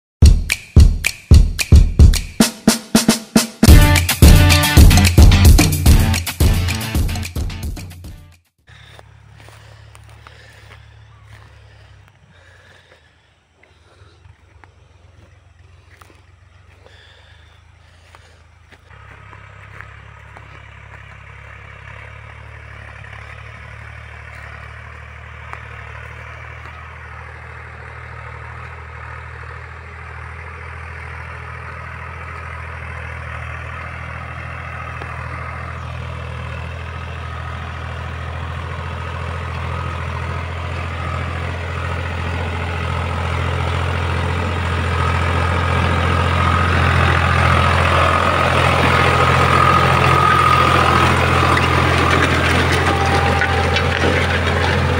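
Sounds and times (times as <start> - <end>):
tractor diesel engine running: 1.3 - 54.9.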